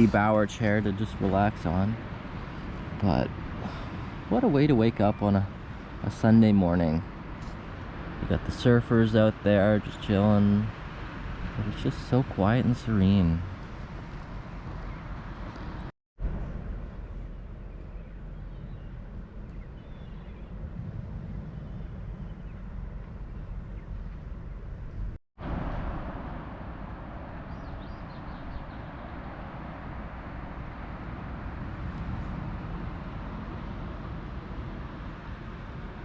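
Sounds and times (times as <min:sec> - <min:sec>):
ocean surf with deep rumble: 0:00.0 - 0:36.0.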